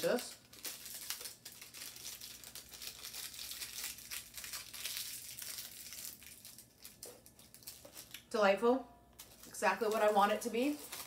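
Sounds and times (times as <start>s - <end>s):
sweet wrapper crinkling: 0.0s - 8.3s, 9.1s - 11.0s.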